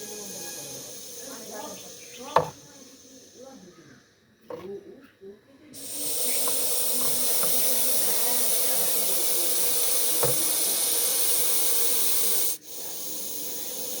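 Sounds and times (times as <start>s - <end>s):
snake hissing: 0.0s - 4.2s, 5.8s - 14.0s.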